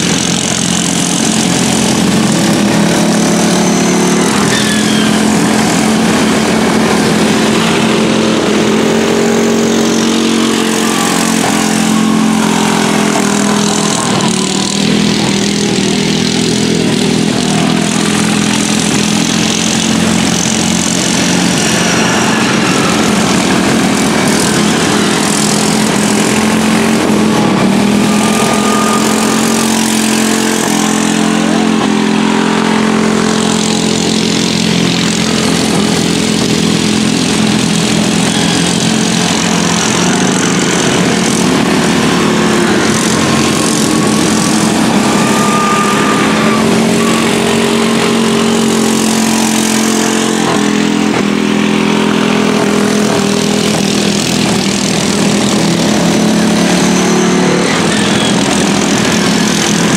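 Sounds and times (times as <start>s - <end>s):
racing lawn mower engines: 0.0s - 59.9s.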